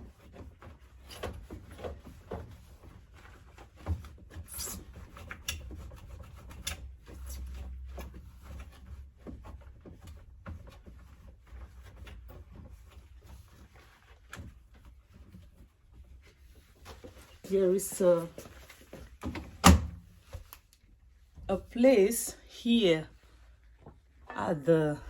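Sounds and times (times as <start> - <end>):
cloth scrubbing plastic: 0.0 - 25.0.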